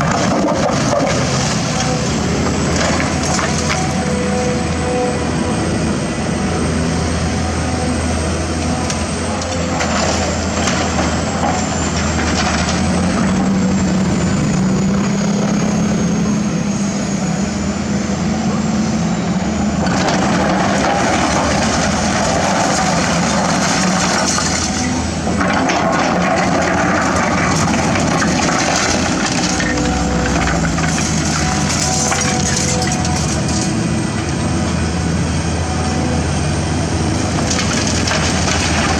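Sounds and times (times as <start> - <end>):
excavator diesel engine running: 0.0 - 38.9
rough mechanical noise: 0.0 - 38.9.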